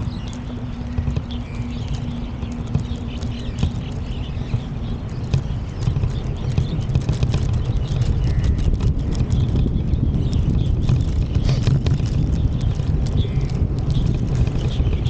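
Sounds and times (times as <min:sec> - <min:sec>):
footsteps on a path: 0:00.0 - 0:15.0
low hum: 0:00.0 - 0:15.0
steady low rumble: 0:00.0 - 0:15.0.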